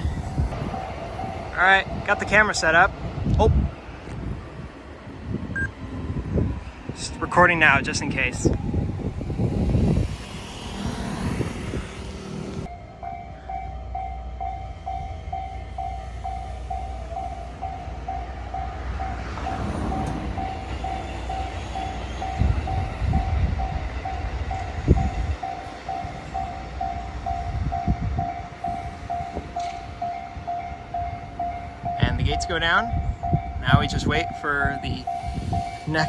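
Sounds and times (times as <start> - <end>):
train rumble on tracks: 0.0 - 36.0.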